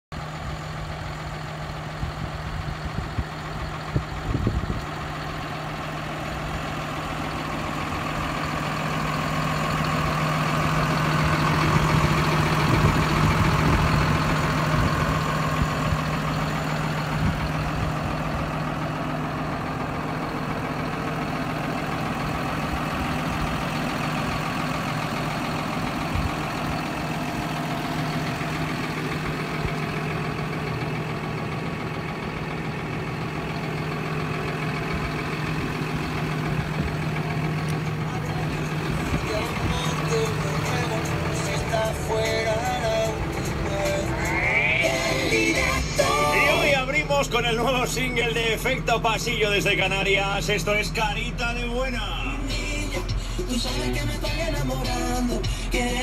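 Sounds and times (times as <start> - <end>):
tractor diesel engine idling: 0.1 - 56.0.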